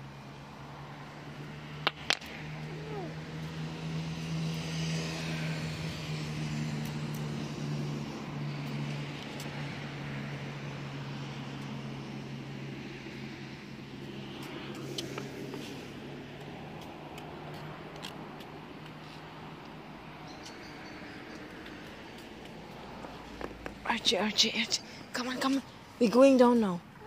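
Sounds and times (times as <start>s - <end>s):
low traffic hum: 0.0s - 27.0s
vehicle passing: 0.0s - 27.0s.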